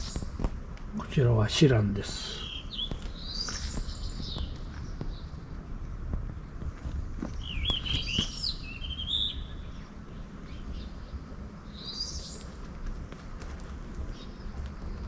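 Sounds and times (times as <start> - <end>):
low background rumble: 0.0 - 15.0
songbirds singing: 0.0 - 15.0.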